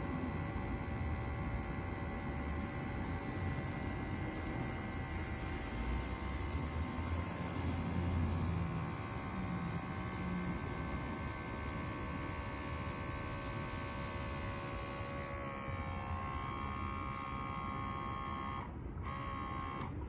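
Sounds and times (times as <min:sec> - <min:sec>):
electric sprayer pump humming: 0:00.0 - 0:20.0.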